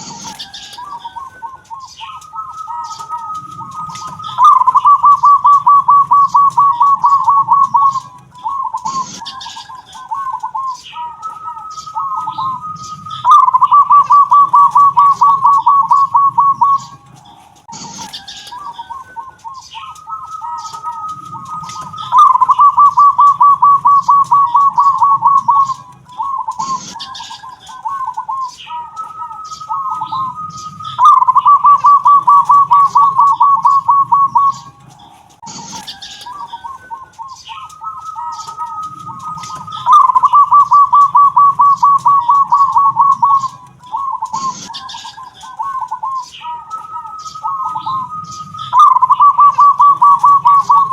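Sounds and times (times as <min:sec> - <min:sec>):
dove cooing with rolling trill: 0:00.0 - 0:50.9.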